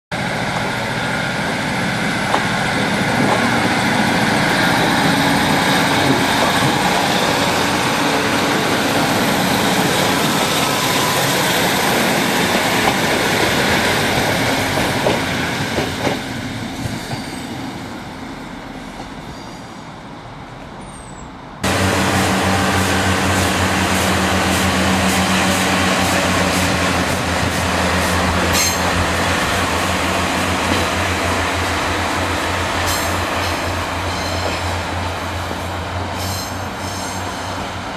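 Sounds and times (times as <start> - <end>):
diesel train passing: 0.1 - 37.9
train engine humming: 0.1 - 37.9
train wheels on rails: 0.2 - 37.9.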